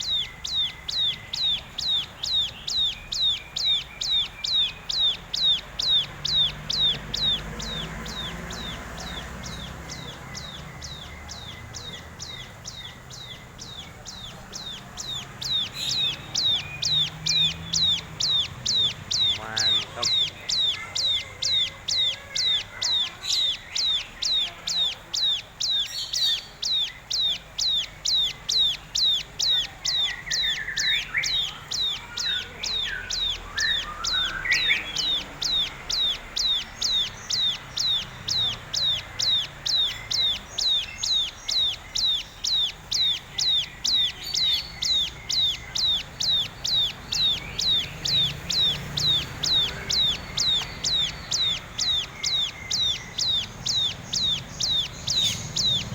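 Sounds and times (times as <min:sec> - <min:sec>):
faint bird chirps: 0:00.0 - 0:55.9.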